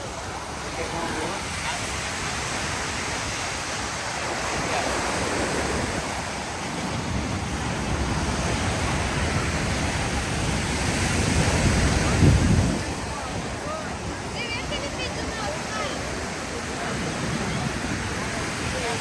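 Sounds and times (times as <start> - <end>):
ocean waves washing ashore: 0.0 - 19.0
wind buffeting microphone: 0.0 - 19.0.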